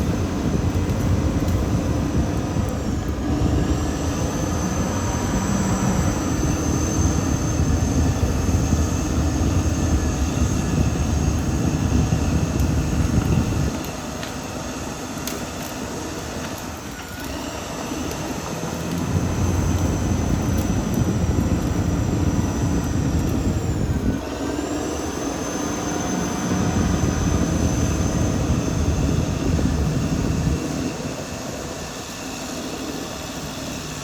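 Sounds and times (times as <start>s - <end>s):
bulldozer diesel engine rumbling: 0.0s - 31.2s
high whine: 0.0s - 34.0s.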